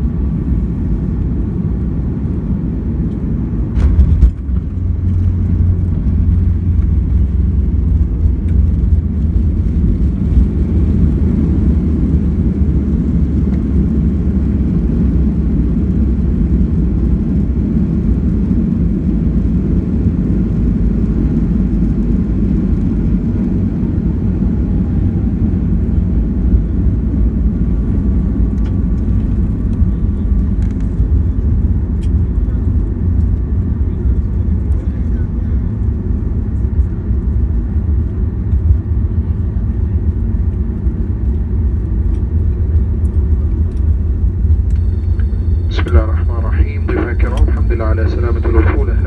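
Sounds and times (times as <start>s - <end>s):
jet engines rumbling: 0.0s - 49.0s.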